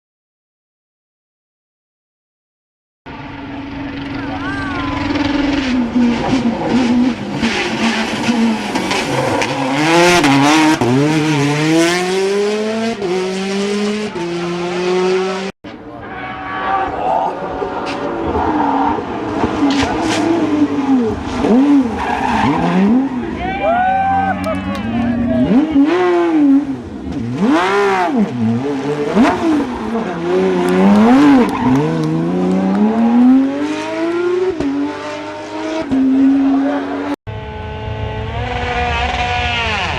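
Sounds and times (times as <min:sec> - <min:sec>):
rally car engine accelerating: 0:03.1 - 0:23.4, 0:24.0 - 0:39.9.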